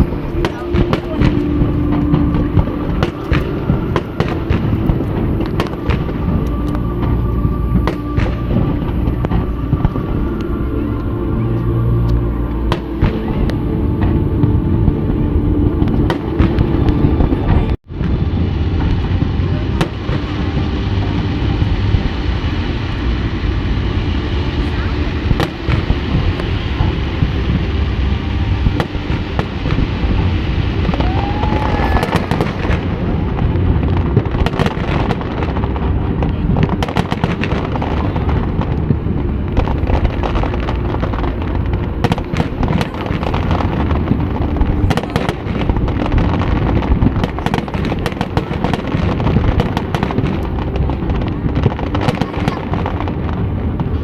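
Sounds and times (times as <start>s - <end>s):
fireworks bursts and crackles: 0.0s - 54.0s
low rumble: 0.0s - 54.0s.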